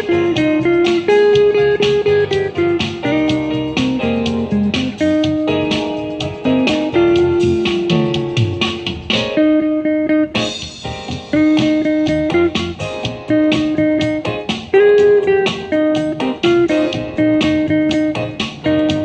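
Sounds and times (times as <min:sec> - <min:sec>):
electric jazz guitar: 0:00.0 - 0:19.0.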